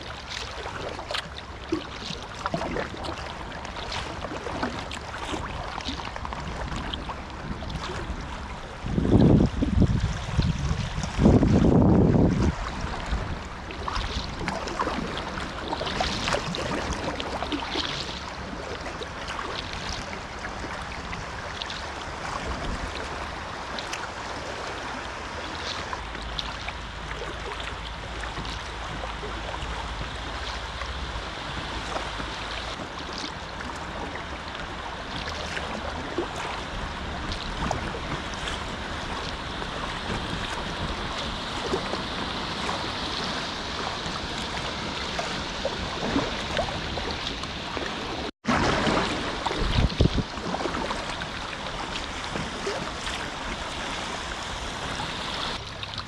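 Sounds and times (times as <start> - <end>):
river rushing and splashing: 0.0 - 56.0
wind rumble on microphone: 0.0 - 56.0.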